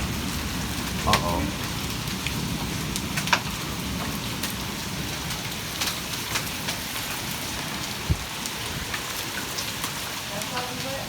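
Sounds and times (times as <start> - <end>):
hailstones clicking on hard surfaces: 0.0 - 11.0
heavy rain hissing: 0.0 - 11.0.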